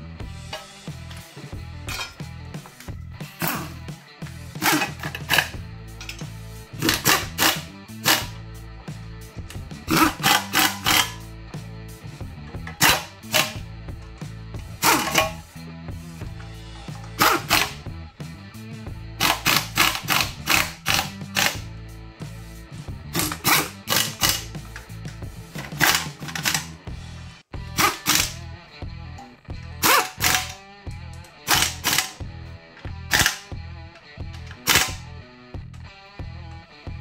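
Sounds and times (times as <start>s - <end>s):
low bass line: 0.0s - 37.0s
music with sharp percussive hits: 0.2s - 28.5s, 29.3s - 35.8s.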